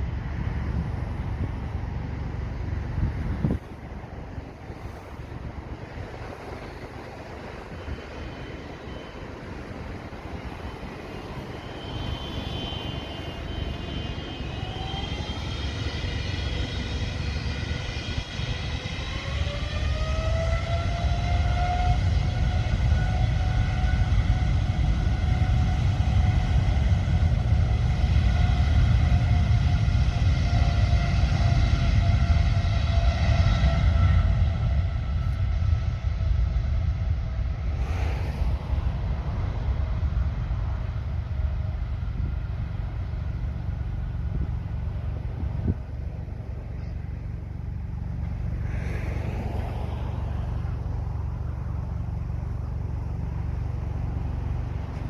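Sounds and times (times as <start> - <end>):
jet engine deep rumble: 0.0 - 55.0
jet engine whine: 0.0 - 55.0.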